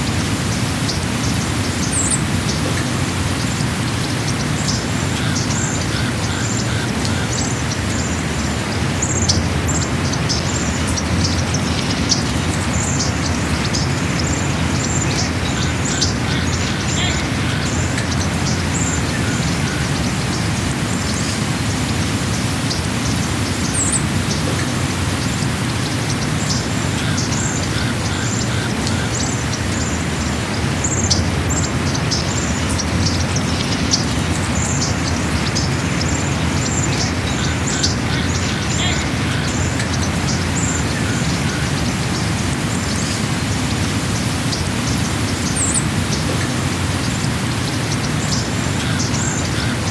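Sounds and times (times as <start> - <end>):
birds chirping: 0.0 - 49.9
lower repeated bird call: 0.0 - 49.9.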